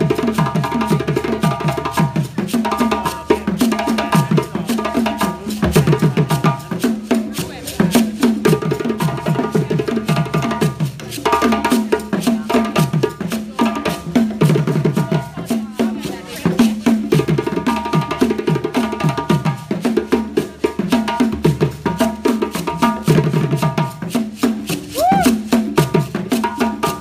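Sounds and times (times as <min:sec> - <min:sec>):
hand drums playing rhythm: 0:00.0 - 0:27.0.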